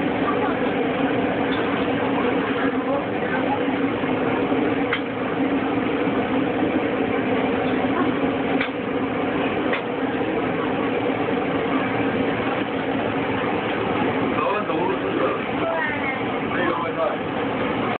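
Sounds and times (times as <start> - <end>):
mechanical hum: 0.0 - 17.9.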